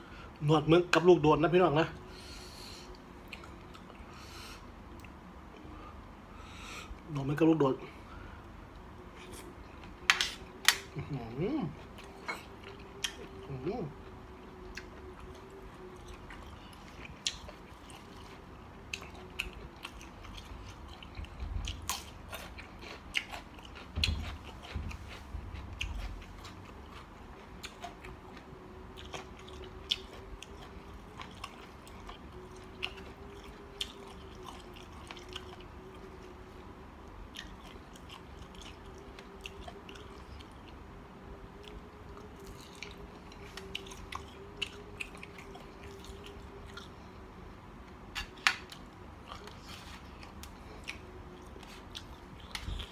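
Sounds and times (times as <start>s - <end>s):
person chewing crunchy food: 9.1s - 40.9s, 41.5s - 47.2s, 47.9s - 52.9s.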